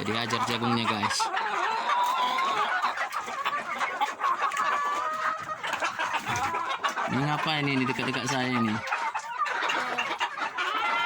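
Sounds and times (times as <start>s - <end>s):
chickens clucking: 0.0s - 11.0s
drawn-out wavering chicken calls: 0.0s - 11.0s.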